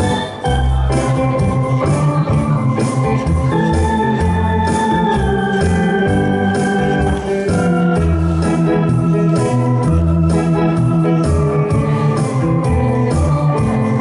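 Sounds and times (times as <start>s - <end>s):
drum machine beat: 0.0s - 14.0s
electronic keyboard organ music: 0.0s - 14.0s.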